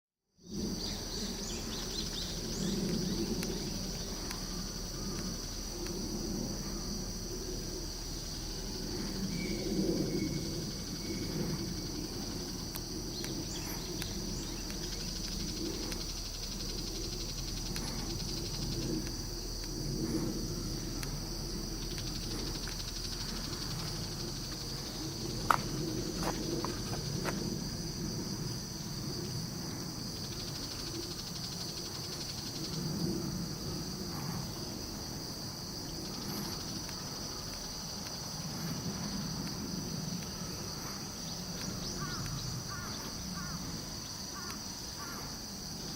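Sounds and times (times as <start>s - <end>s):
insects chirring: 0.4s - 45.9s
low background rumble: 0.5s - 45.9s.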